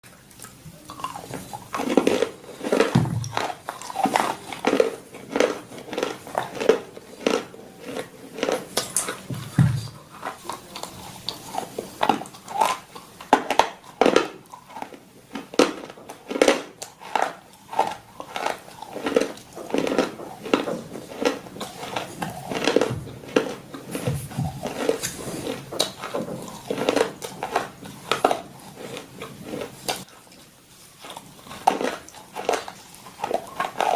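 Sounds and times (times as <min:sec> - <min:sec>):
crunchy food being chewed: 0:00.0 - 0:33.9.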